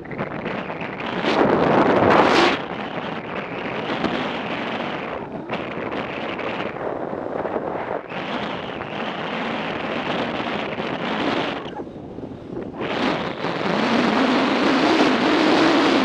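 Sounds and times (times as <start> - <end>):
motorcycle road noise roar: 0.0 - 16.0
wind rushing over microphone: 0.0 - 16.0.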